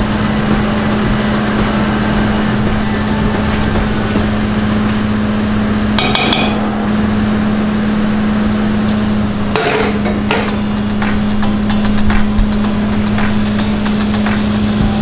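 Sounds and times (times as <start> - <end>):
cotton candy machine humming: 0.0 - 15.0.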